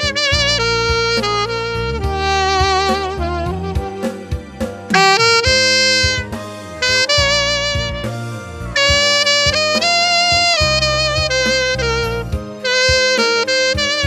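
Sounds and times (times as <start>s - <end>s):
slow melody with vibrato: 0.0s - 12.9s
backing track with bass line: 0.0s - 14.0s.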